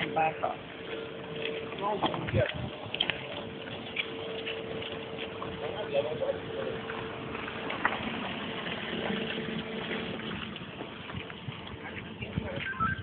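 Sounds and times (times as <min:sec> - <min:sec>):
car engine running: 0:00.0 - 0:12.6
faint constant hum: 0:00.0 - 0:13.0.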